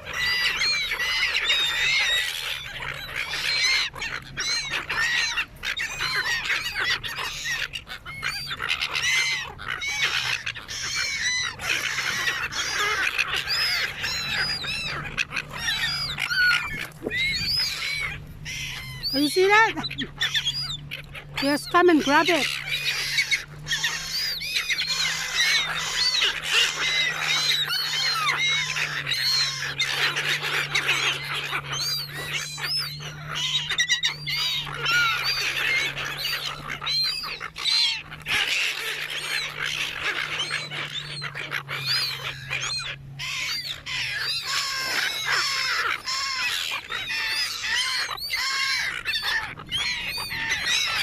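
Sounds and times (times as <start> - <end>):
low steady hum: 0.0 - 51.0
seagulls squawking: 0.0 - 51.0.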